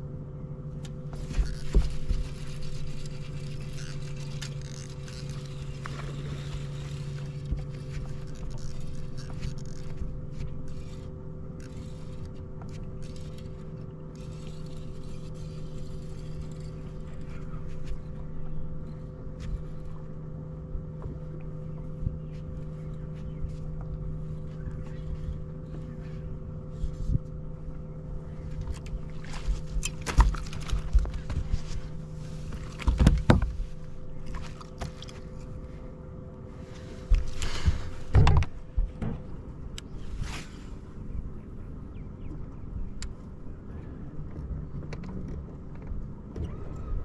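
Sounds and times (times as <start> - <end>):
electric trolling motor hum: 0.0 - 40.1.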